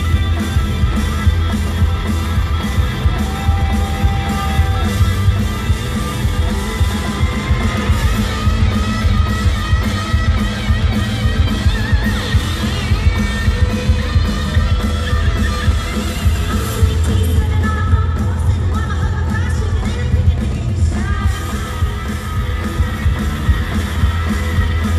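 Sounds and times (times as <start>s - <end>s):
bass guitar: 0.0s - 24.9s
drums: 0.0s - 24.9s
electric guitars: 0.0s - 24.9s.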